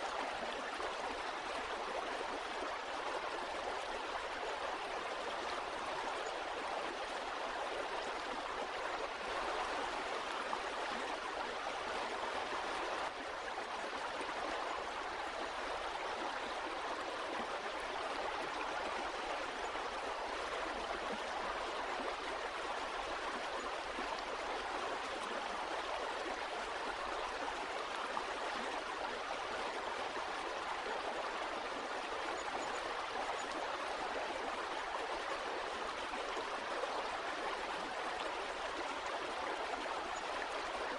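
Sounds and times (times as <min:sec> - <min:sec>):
stream water gurgling over rocks: 0:00.0 - 0:40.9.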